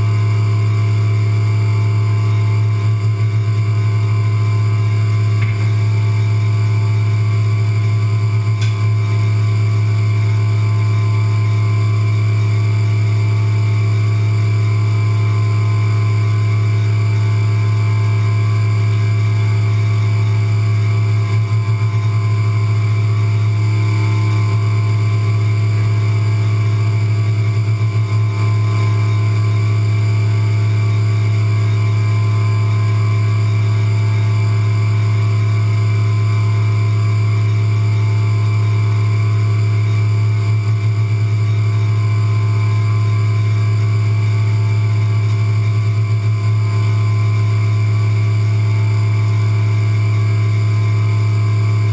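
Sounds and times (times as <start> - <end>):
milling machine humming and whining: 0.0 - 51.9.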